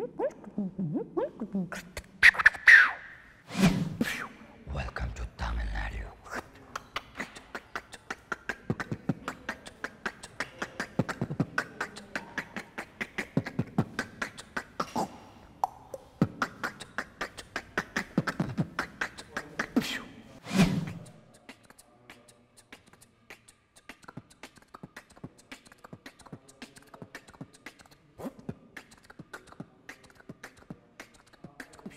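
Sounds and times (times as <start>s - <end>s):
beatboxing: 0.0s - 31.9s
loud low beatbox hit: 3.4s - 5.8s, 7.0s - 31.9s.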